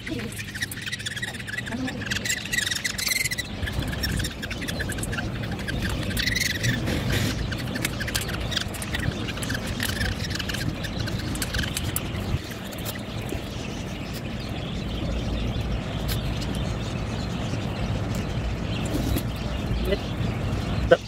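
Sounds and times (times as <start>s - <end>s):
budgerigar chicks raspy calls: 0.0s - 21.0s
low rumble of handling noise: 0.0s - 21.0s.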